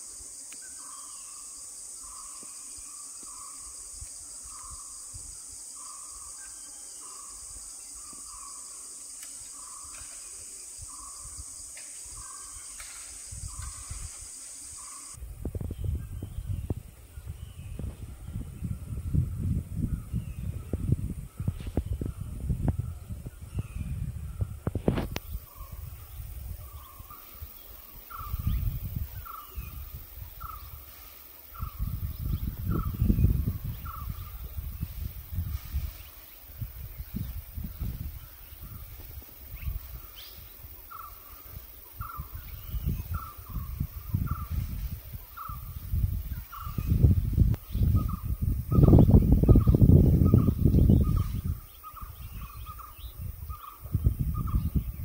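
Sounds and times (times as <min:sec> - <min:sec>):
insects droning: 0:00.0 - 0:55.0
wind rumble on microphone: 0:03.2 - 0:06.2, 0:13.1 - 0:55.0.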